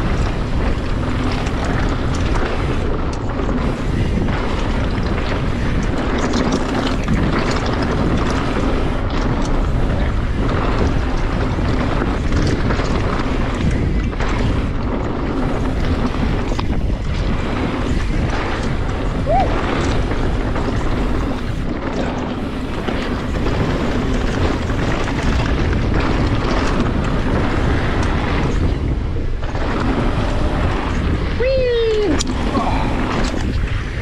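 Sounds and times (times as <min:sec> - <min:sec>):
bike rattling over bumps: 0:00.0 - 0:34.0
bike tyre noise: 0:00.0 - 0:34.0
wind on microphone: 0:00.0 - 0:34.0.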